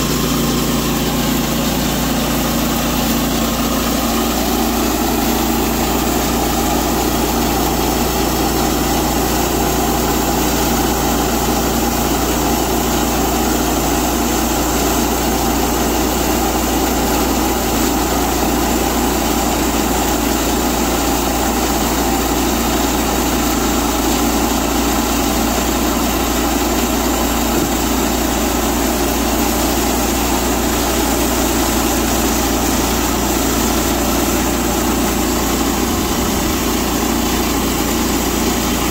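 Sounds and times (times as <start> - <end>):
gas engine running: 0.0 - 38.9.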